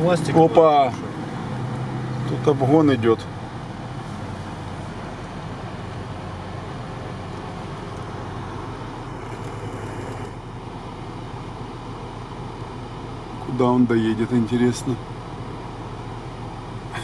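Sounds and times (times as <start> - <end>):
vehicle engine rumble from inside: 0.0 - 17.0.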